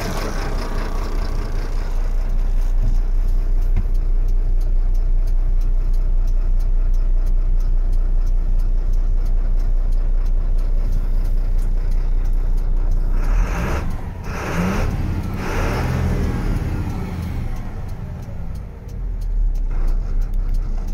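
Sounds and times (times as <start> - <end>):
truck diesel engine idling: 0.0 - 20.9.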